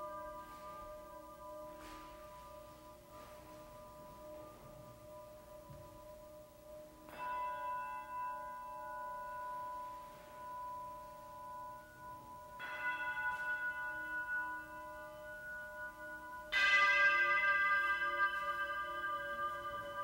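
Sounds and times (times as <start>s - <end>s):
struck metal instrument ringing: 0.0s - 20.0s.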